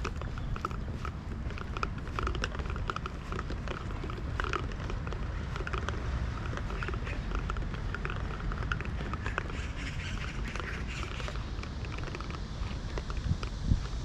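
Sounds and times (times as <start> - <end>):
birds chirping: 0.0 - 13.0
steady low rumble: 0.0 - 14.0.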